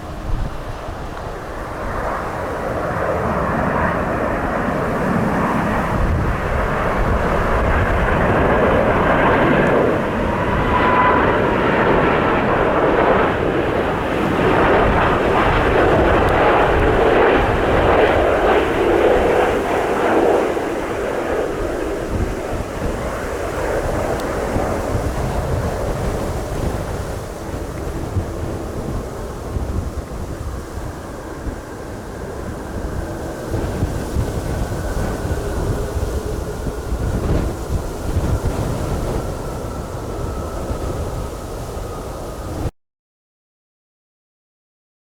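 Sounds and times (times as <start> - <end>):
jet engines roaring: 0.0 - 42.7
wind rumble on microphone: 0.0 - 42.7.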